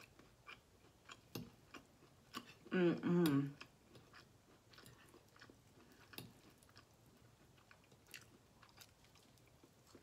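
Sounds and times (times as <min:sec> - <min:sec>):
faint chewing: 0:00.0 - 0:10.0.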